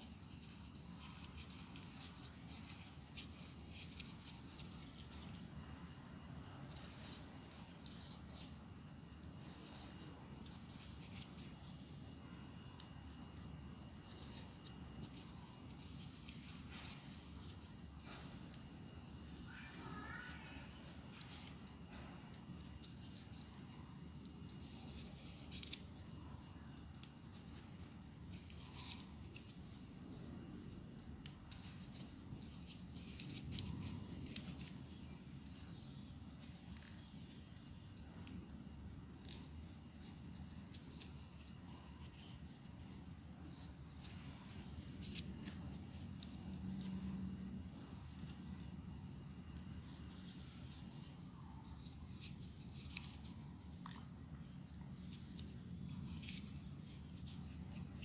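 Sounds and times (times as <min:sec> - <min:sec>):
paper rustling and crackling: 0:00.0 - 0:05.6, 0:06.5 - 0:48.8, 0:49.8 - 0:58.0
faint low hum: 0:00.0 - 0:58.0.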